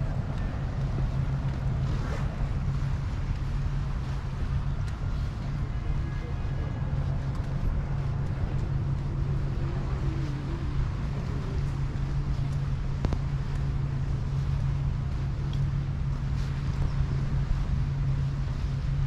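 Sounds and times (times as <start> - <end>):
low engine hum: 0.0 - 19.0
wind rumbling on microphone: 0.0 - 19.0.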